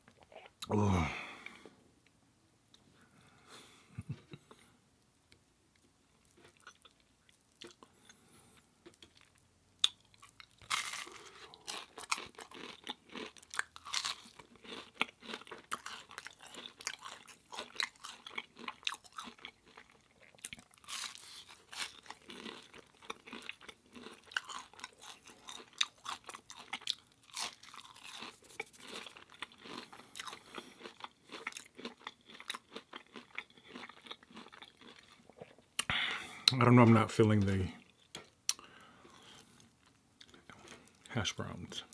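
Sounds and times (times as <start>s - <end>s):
chewing crunchy food: 4.0s - 36.6s, 37.4s - 41.2s.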